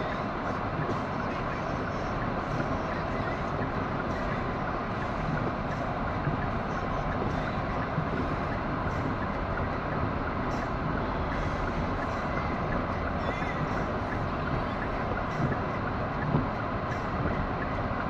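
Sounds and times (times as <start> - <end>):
car interior road rumble: 0.0 - 18.0.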